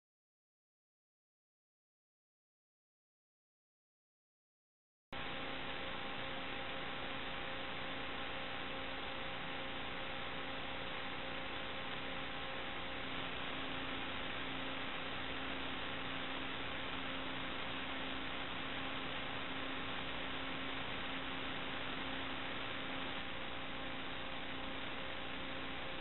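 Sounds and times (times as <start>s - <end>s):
electronic hiss: 5.2s - 26.0s
faint hum of steady tones: 5.2s - 26.0s.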